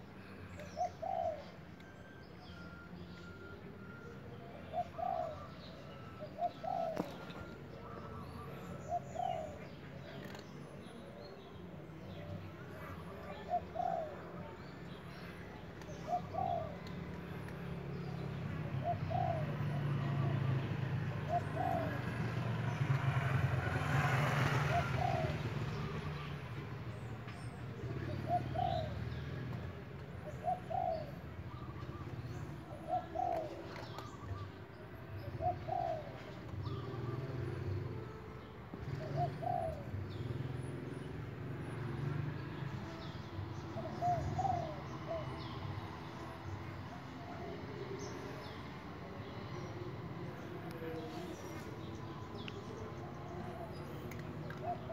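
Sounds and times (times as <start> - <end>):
dove cooing: 0.5 - 1.7, 4.5 - 10.4, 12.6 - 14.6, 15.2 - 26.4, 27.8 - 38.0, 38.8 - 41.1, 42.9 - 54.9.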